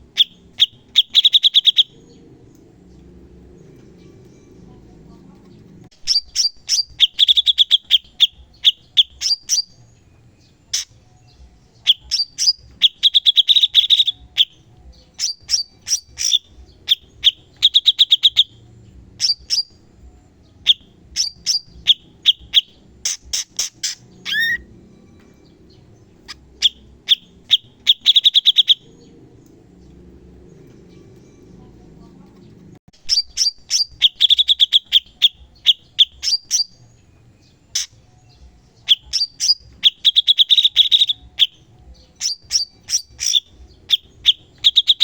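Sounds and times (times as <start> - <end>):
songbird singing rapid high notes: 0.0 - 2.3, 5.9 - 24.7, 25.4 - 29.3, 33.0 - 45.0.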